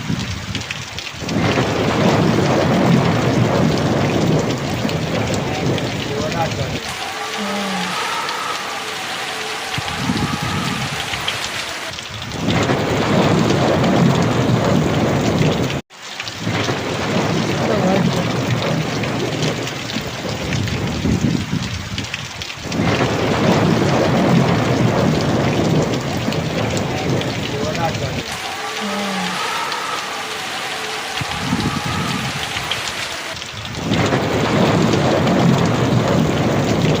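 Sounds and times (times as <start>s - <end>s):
thunder rumbling: 0.0s - 15.8s, 16.4s - 37.0s
heavy rain falling: 0.0s - 37.0s.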